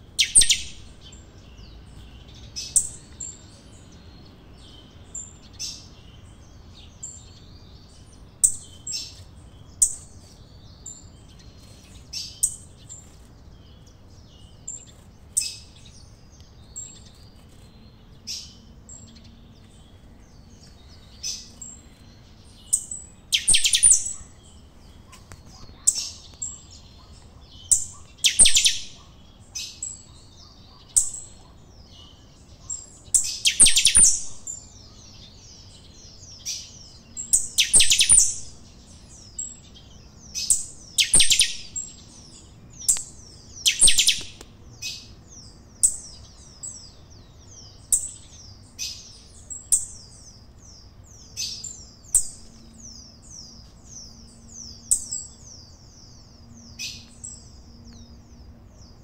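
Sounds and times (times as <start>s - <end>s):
finch singing: 0.0s - 59.0s.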